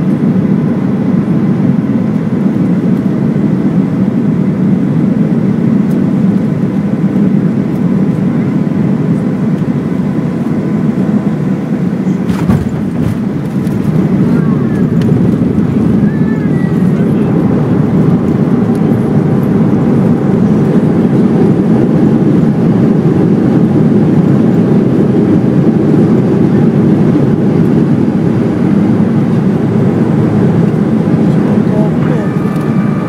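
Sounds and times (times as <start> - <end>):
jet engines and rolling wheels rumble: 0.0 - 33.0.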